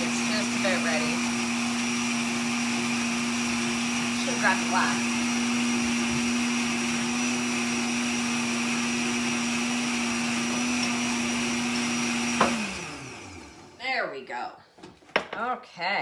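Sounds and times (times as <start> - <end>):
blender motor running: 0.0 - 13.8.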